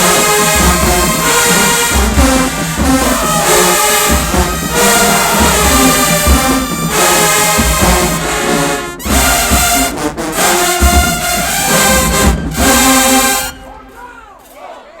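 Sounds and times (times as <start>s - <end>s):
bass drum hits: 0.0s - 10.0s, 10.7s - 13.2s
brass section playing loud chords: 0.0s - 14.0s.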